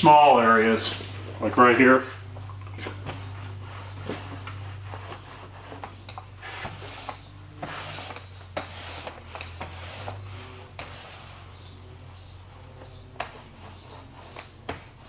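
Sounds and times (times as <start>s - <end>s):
paint roller swishing: 0.3s - 15.0s.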